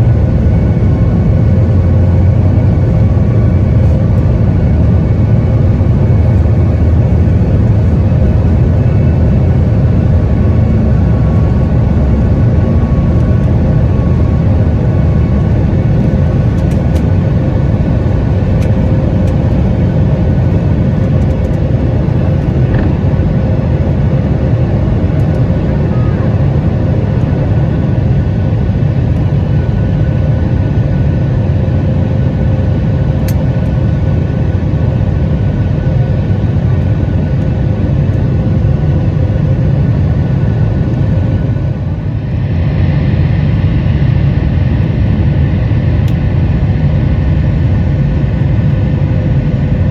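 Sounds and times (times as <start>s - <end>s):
airliner cabin engine rumble: 0.0s - 49.9s
constant cabin hum: 0.0s - 49.9s.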